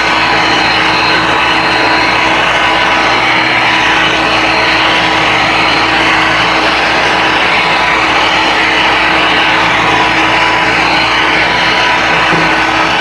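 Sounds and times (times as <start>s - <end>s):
power saw motor whine: 0.0s - 13.0s.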